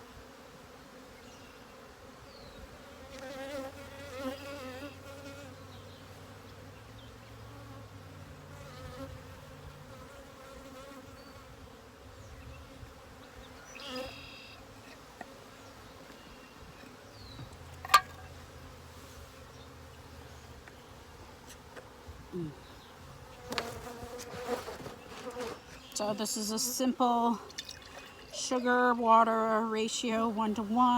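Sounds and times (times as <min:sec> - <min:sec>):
honeybees buzzing: 0:00.0 - 0:30.9.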